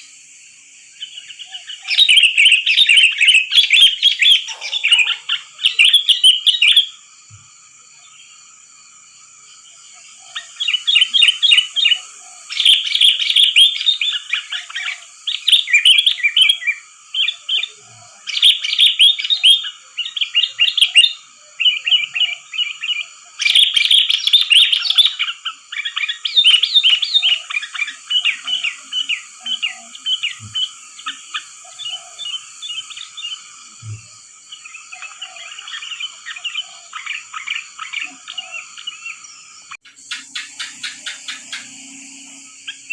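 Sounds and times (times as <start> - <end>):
bird singing bubbly chirps: 1.0 - 7.1, 10.1 - 42.9.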